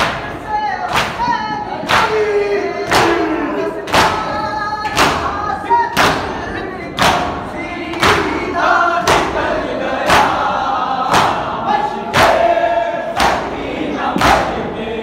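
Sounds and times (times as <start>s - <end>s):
chest beating slaps: 0.0s - 14.7s
men chanting: 0.0s - 15.0s.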